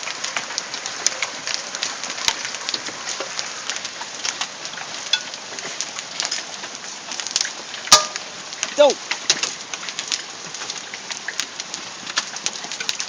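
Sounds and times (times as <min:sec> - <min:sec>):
hailstones pelting: 0:00.0 - 0:13.0.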